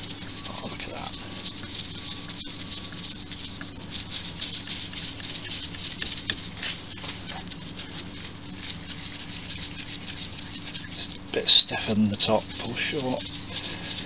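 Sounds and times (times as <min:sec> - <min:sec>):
metal scraping and rubbing: 0:00.0 - 0:14.0.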